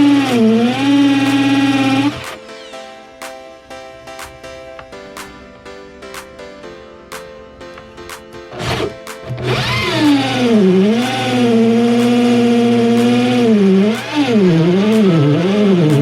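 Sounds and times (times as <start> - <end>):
sliding wavering lead melody: 0.0 - 16.0.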